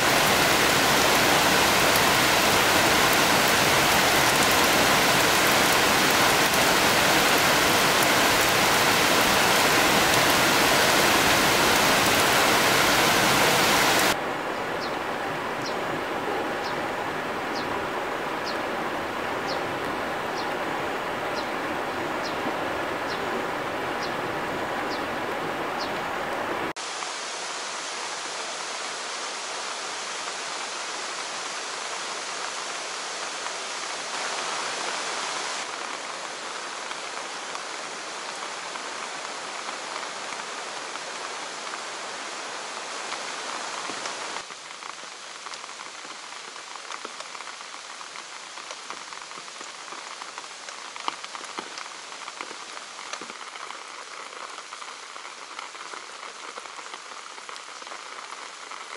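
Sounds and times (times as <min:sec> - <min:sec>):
steady rain hissing: 0:00.0 - 0:58.9.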